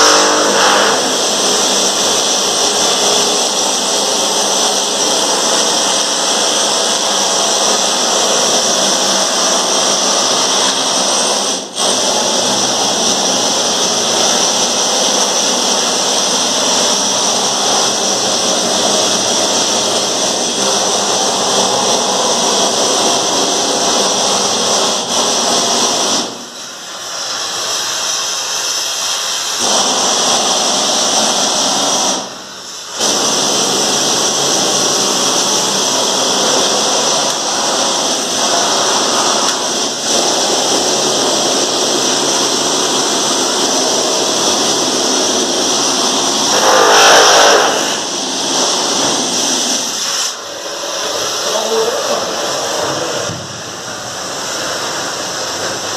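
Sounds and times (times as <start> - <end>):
metal cutting hiss: 0.0 - 55.9.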